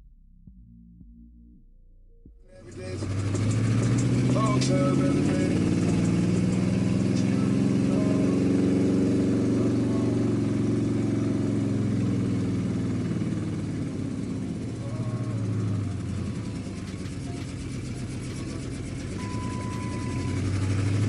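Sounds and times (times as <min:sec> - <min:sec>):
car engine droning: 0:02.5 - 0:21.0.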